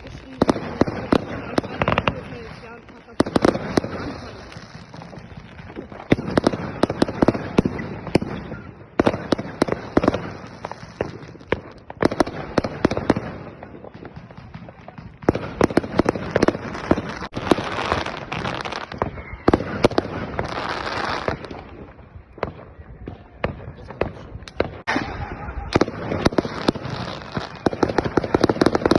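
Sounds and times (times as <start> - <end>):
firecrackers crackling: 0.0 - 28.9
fireworks banging: 0.0 - 28.9.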